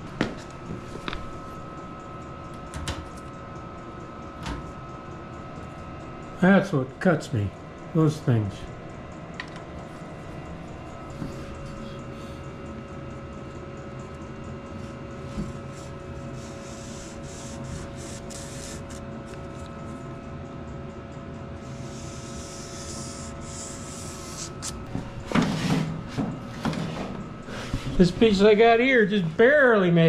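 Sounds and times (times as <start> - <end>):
shop hum: 0.0 - 30.0.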